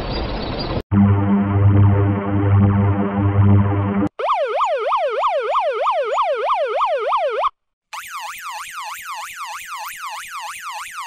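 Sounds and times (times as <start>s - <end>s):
police siren sweeping: 0.9s - 11.0s.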